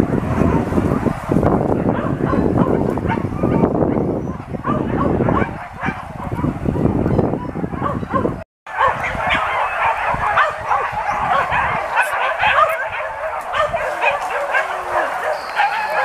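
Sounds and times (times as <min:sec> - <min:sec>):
dogs yelping and baying: 0:01.8 - 0:16.0.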